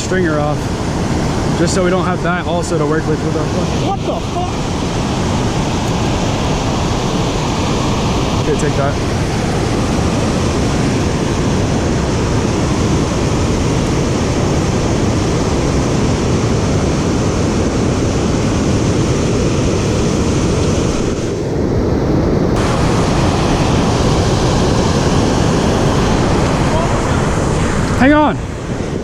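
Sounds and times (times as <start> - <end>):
water roaring through spillway: 0.0 - 29.0.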